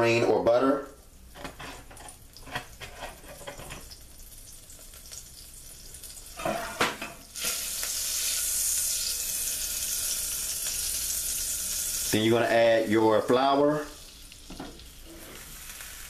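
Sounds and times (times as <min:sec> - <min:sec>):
butter sizzling in a pot: 0:00.6 - 0:16.0.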